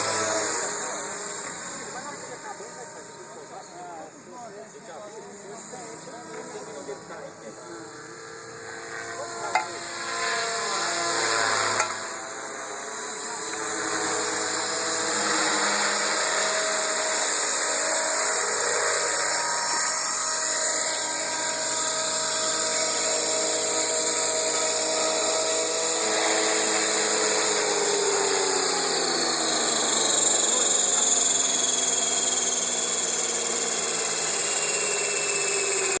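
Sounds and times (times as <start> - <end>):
model helicopter motor whine: 0.0 - 36.0.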